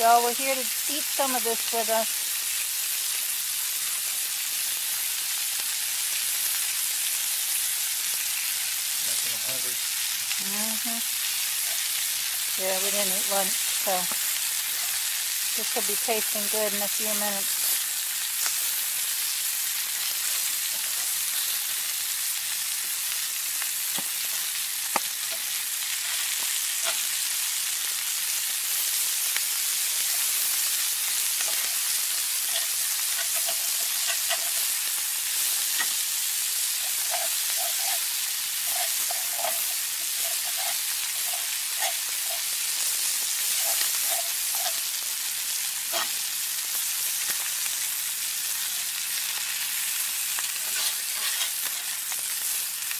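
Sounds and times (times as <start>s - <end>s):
food sizzling in a skillet: 0.0s - 52.9s.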